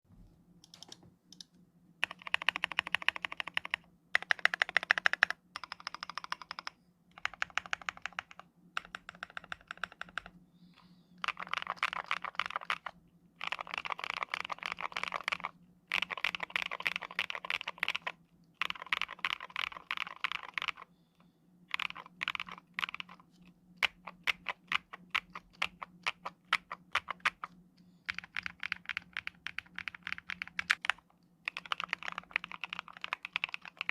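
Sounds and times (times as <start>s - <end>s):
faint low hum: 0.1s - 33.9s
mechanical keyboard typing: 0.6s - 10.3s, 11.2s - 20.9s, 21.7s - 23.2s, 23.8s - 27.5s, 28.1s - 33.9s.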